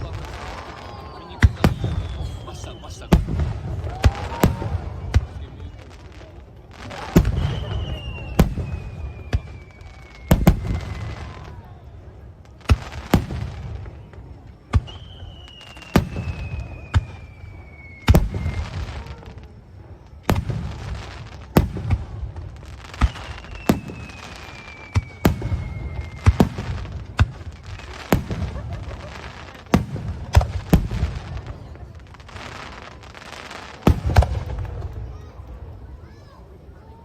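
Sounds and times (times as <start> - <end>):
fireworks whistles sliding down: 0.0 - 5.0, 6.8 - 12.1, 12.7 - 34.5
hissing crackle: 0.0 - 35.9
fireworks bangs: 0.0 - 37.0.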